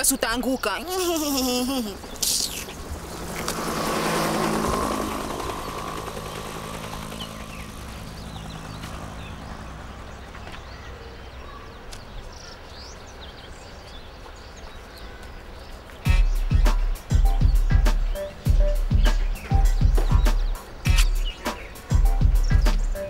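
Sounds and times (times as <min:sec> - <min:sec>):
helicopter flying overhead: 0:01.7 - 0:13.6, 0:15.3 - 0:23.0.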